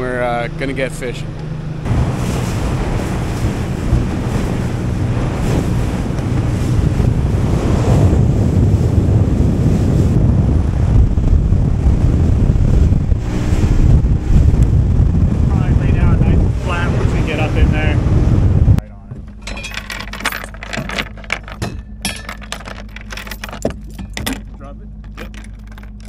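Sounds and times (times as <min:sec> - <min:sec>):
boat engine drone: 0:00.0 - 0:26.0
water rushing past boat hull: 0:00.0 - 0:26.0
wind buffeting microphone: 0:00.0 - 0:26.0.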